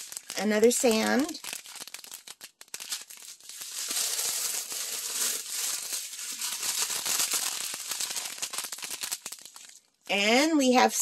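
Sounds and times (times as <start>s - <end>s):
resin beads rattling: 0.0s - 9.7s
plastic bags crinkling: 0.0s - 10.0s.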